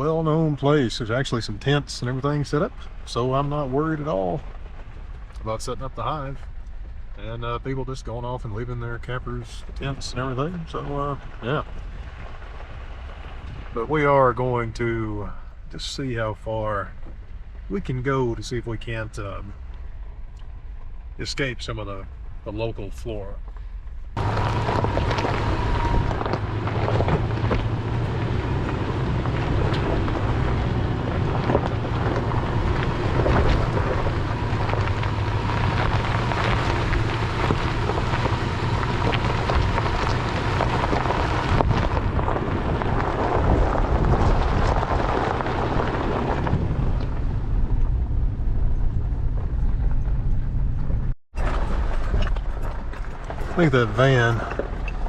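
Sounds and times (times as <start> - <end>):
tires crunching on rocks: 0.0 - 55.0
vehicle engine hum: 0.0 - 55.0.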